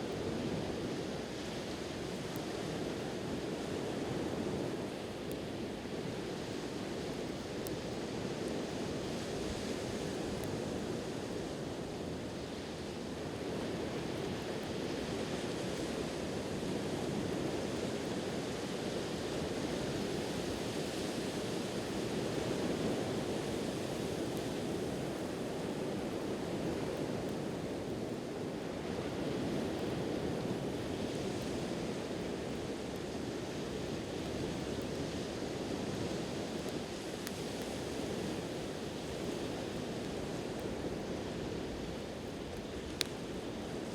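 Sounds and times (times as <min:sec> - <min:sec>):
bonfire crackles: 0:00.0 - 0:43.9.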